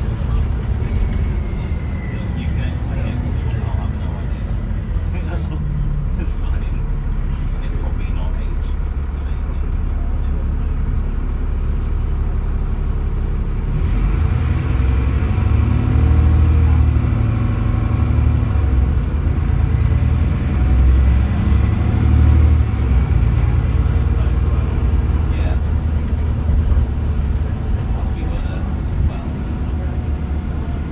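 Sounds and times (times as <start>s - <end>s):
bus diesel engine accelerating: 0.0s - 30.9s.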